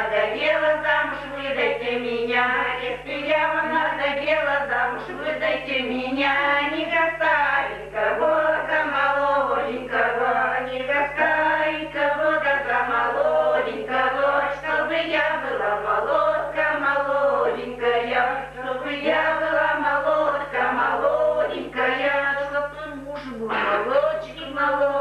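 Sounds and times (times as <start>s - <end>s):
low recording hum: 0.0s - 25.0s
women singing unaccompanied: 0.0s - 25.0s.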